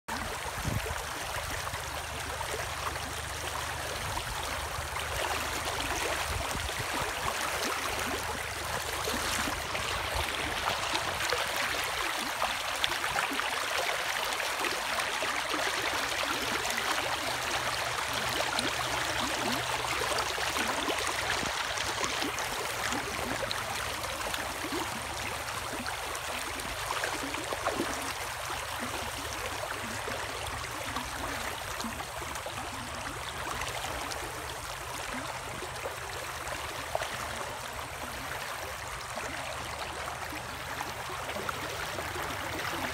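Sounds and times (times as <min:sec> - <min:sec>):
stream running over rocks: 0:00.1 - 0:42.9.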